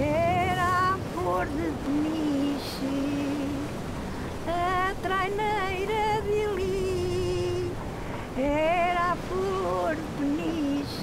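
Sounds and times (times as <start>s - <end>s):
sea surf: 0.0s - 11.0s
wind: 0.0s - 11.0s
woman singing: 0.0s - 11.0s.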